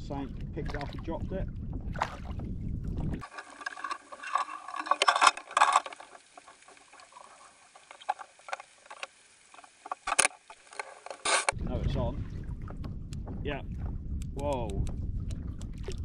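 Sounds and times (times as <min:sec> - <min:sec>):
muffled underwater scratching and knocking: 0:01.7 - 0:16.0.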